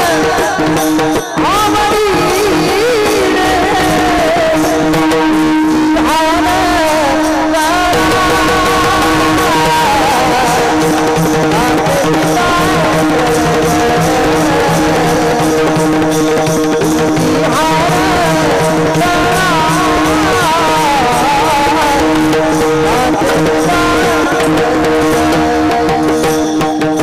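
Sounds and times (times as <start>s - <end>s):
steady drone: 0.0s - 26.9s
pakhawaj drum: 0.0s - 27.0s
person singing devotional song: 0.0s - 27.0s
small cymbals beating: 0.0s - 27.0s.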